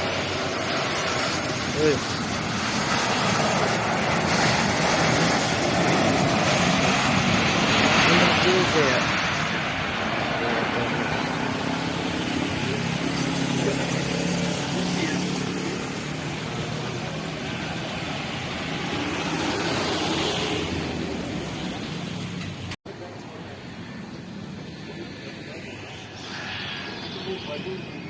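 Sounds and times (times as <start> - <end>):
jet airliner engines: 0.0 - 28.0.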